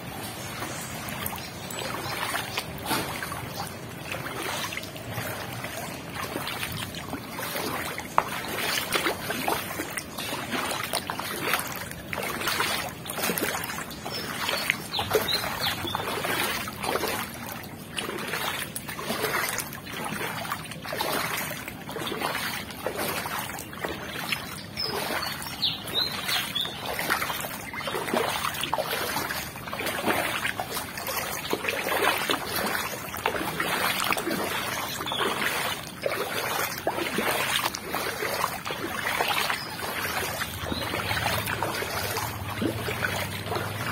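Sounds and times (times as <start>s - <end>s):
footsteps splashing in water: 0.0s - 43.9s.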